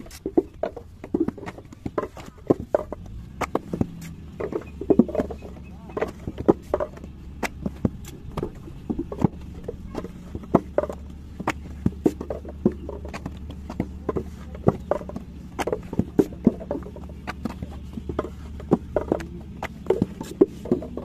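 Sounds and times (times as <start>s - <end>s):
stick knocking on mould: 0.0s - 21.0s
wooden stick scraping brick mould: 0.0s - 21.0s.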